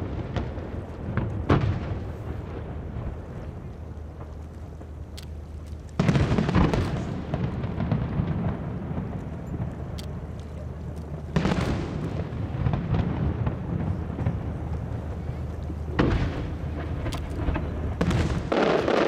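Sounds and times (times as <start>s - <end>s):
fireworks booming: 0.0s - 19.0s
rumbling tail with crackles: 0.0s - 19.0s.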